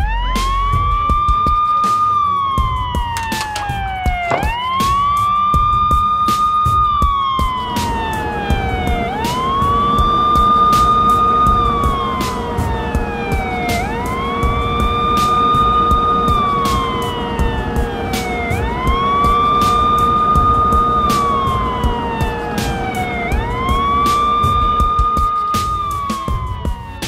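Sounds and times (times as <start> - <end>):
wailing police siren: 0.0 - 27.0.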